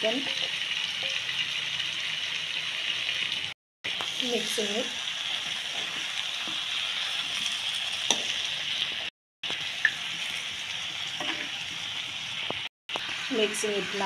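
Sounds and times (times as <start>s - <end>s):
curry sizzling in a pan: 0.0s - 14.0s.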